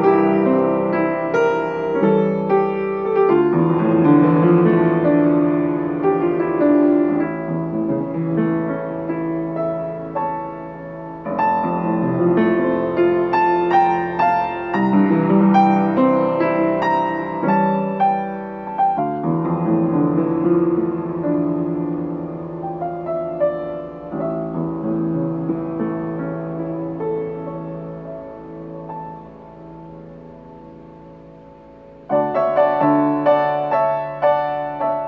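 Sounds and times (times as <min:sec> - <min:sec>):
upright piano playing: 0:00.0 - 0:35.0.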